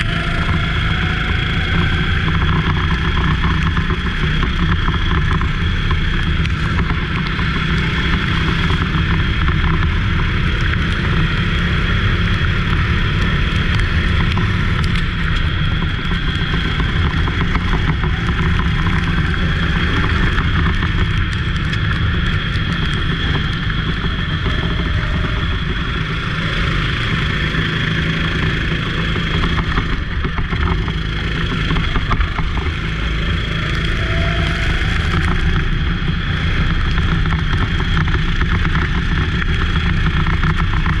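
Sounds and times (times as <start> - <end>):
go-kart engine running hard: 0.0 - 41.0.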